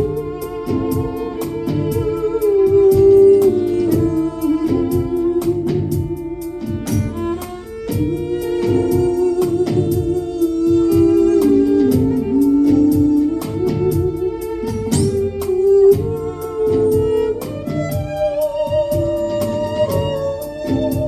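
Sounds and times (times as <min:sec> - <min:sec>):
hand percussion strokes: 0:00.0 - 0:21.0
violin sliding between notes: 0:00.0 - 0:21.0.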